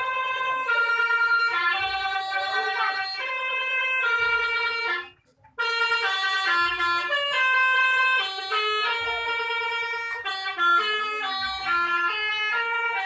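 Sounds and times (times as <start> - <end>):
bus horn playing a tune: 0.0 - 13.0.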